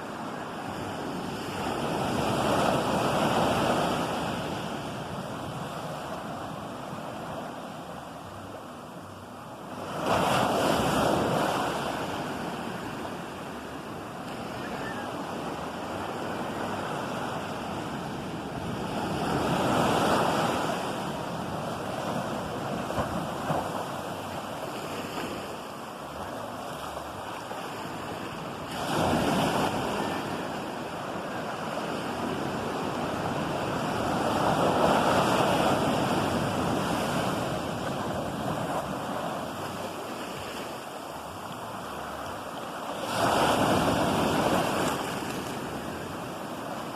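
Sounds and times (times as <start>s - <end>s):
constant surf wash: 0.0s - 46.9s
waves crashing on shore: 0.0s - 46.9s.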